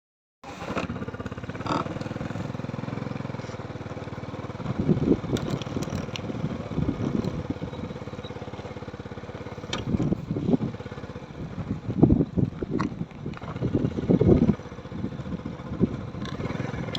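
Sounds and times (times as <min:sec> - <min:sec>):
small engine puttering: 0:00.4 - 0:16.9.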